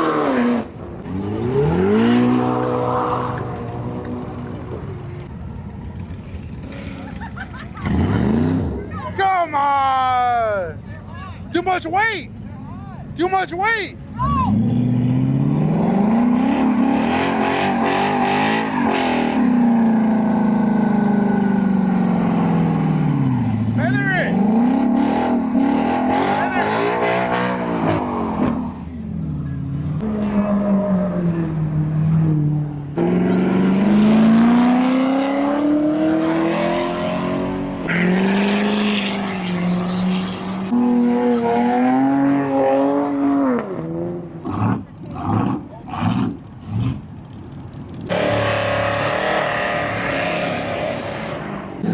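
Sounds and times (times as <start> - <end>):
car engine revving: 0.0 - 9.5, 14.2 - 51.9.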